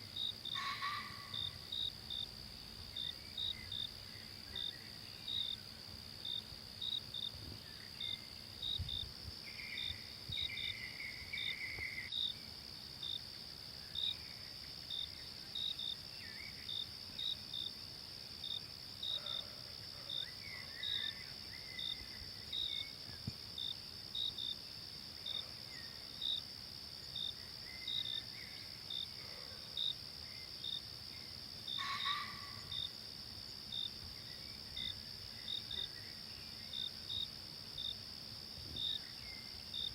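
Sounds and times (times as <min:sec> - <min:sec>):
insect chirps: 0:00.0 - 0:39.9
insects droning: 0:00.0 - 0:39.9.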